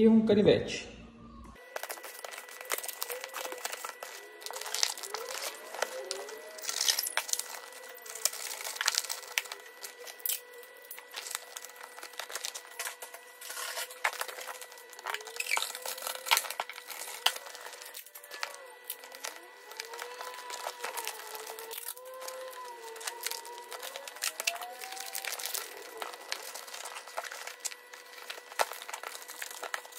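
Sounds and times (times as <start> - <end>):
cardboard rustling and creasing: 1.6 - 29.9.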